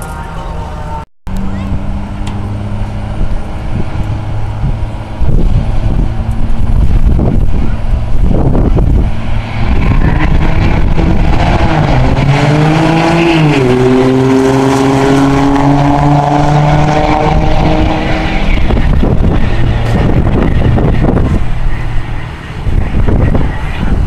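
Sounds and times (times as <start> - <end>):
diesel trucks accelerating: 0.0 - 24.0.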